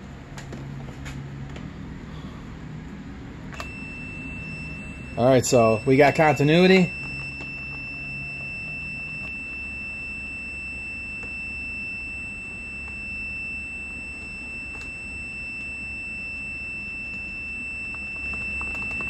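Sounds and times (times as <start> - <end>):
multimeter continuity beep: 3.6 - 19.0.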